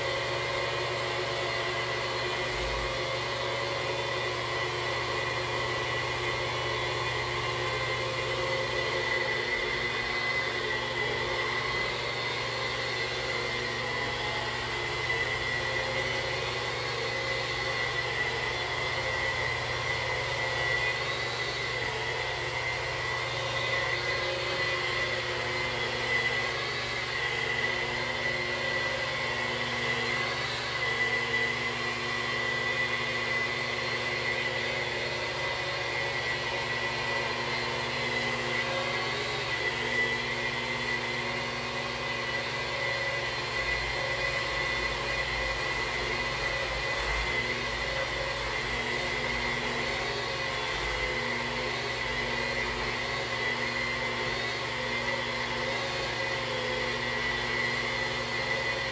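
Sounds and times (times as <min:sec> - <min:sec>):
power polisher high whine: 0:00.0 - 0:58.9.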